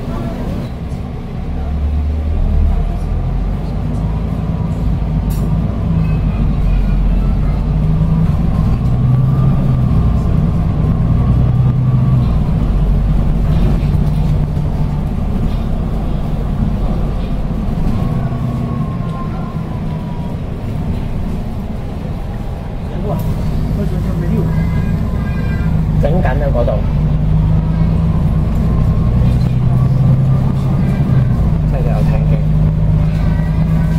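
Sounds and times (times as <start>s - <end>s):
bus diesel engine drone: 0.0s - 33.9s.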